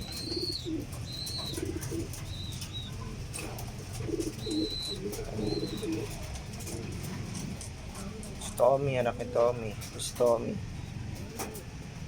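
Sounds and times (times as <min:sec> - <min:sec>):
pigeons cooing: 0:00.0 - 0:10.2, 0:10.8 - 0:11.8.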